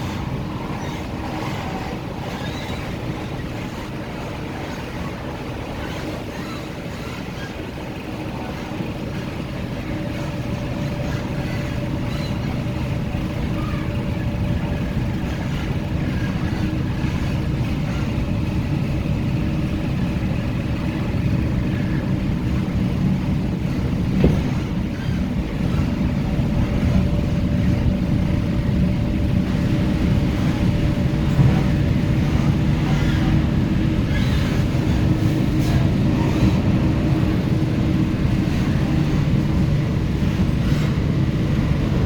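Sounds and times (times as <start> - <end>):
train motor hum: 0.0 - 42.0
train wheels rumbling on rail: 0.0 - 42.0.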